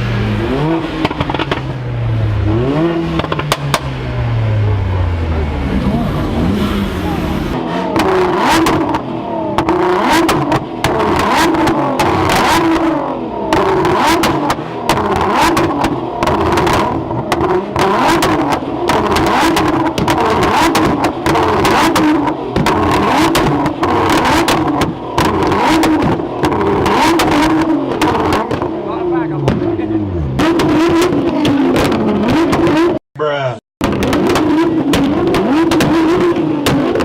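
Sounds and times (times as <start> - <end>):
car engines revving: 0.0 - 33.0, 33.8 - 37.0.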